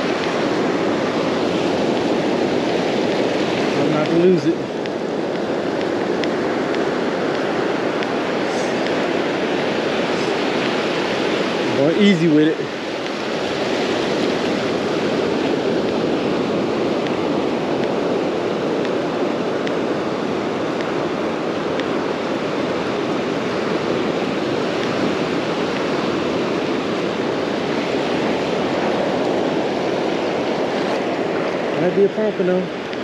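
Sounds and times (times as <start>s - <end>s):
ocean waves breaking on sand: 0.0s - 33.0s.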